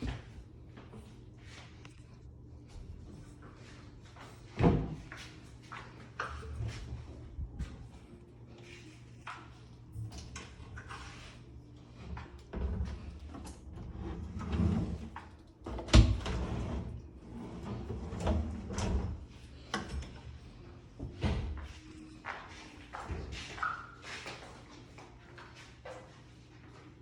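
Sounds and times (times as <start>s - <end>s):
low rumbling handling sounds: 0.0s - 22.0s.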